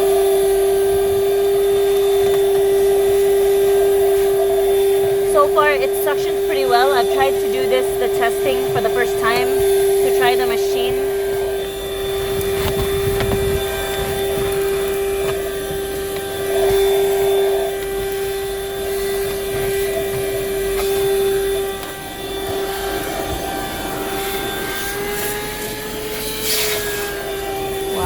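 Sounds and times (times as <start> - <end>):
handheld vacuum motor whine: 0.0 - 28.0.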